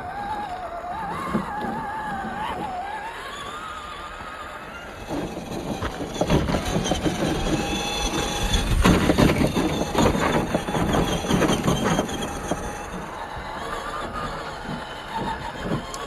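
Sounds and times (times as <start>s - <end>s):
toy car body rattling: 0.0s - 16.0s
toy car tyres clattering on rocks: 0.0s - 16.0s.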